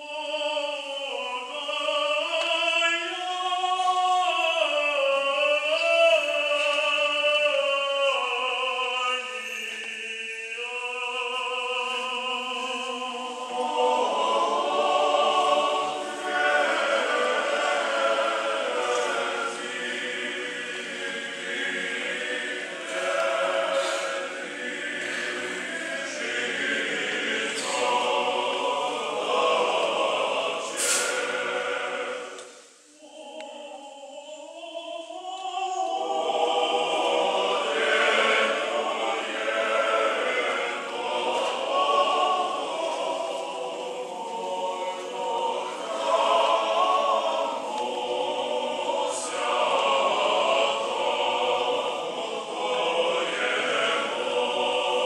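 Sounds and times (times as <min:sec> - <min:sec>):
choir singing unaccompanied chant: 0:00.0 - 0:55.0.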